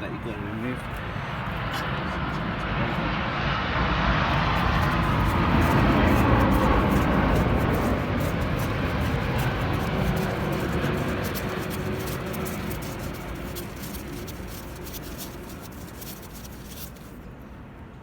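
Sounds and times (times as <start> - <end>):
engine rumble passing: 0.0 - 17.3.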